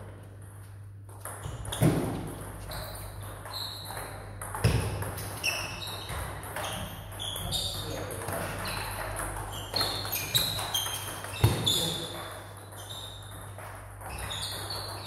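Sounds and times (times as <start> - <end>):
ping-pong ball hits: 0.1 - 15.0
shoes squeaking: 1.4 - 15.0.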